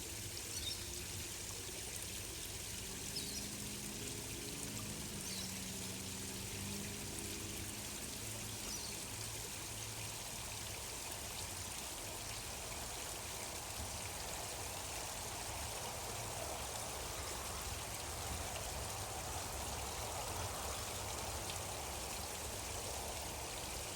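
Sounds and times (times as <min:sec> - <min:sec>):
stream water trickling: 0:00.0 - 0:23.9.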